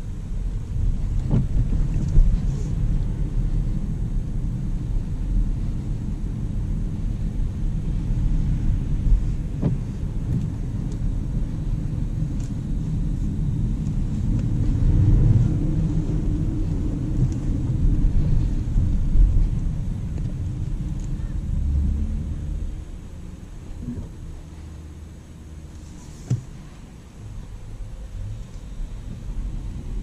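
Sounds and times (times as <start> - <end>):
road and tyre noise: 0.0 - 30.0.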